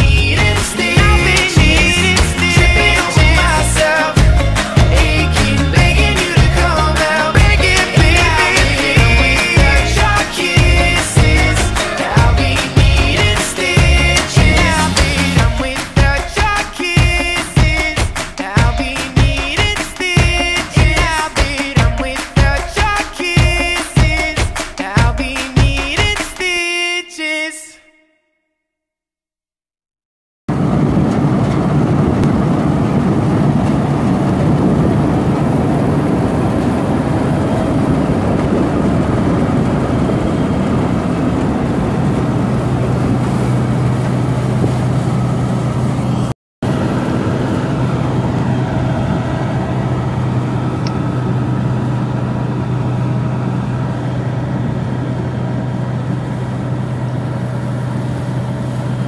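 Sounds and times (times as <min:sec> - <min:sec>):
low drone: 0:00.0 - 0:24.4, 0:30.5 - 0:59.0
combine harvester running: 0:00.0 - 0:26.4, 0:30.5 - 0:59.0.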